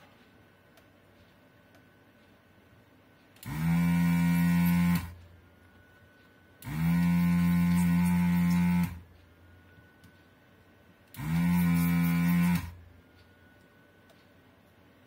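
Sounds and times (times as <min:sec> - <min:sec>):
desoldering vacuum pump humming: 0:00.0 - 0:15.0.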